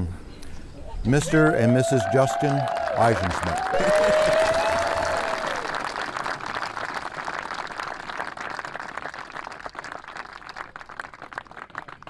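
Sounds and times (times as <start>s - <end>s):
crowd applauding: 1.2s - 12.0s.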